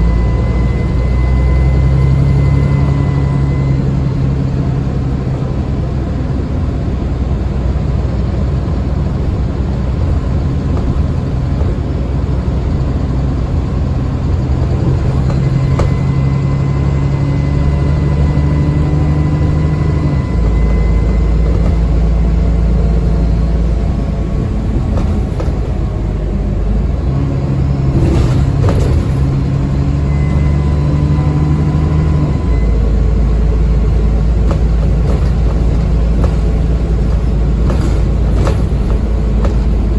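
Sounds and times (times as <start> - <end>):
bus engine: 0.0 - 39.9
high turbo whine: 0.0 - 39.9.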